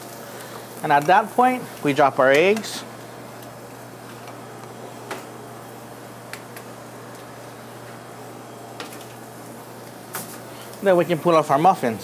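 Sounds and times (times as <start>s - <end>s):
cooking hiss: 0.0s - 12.0s
low kitchen hum: 0.0s - 12.0s.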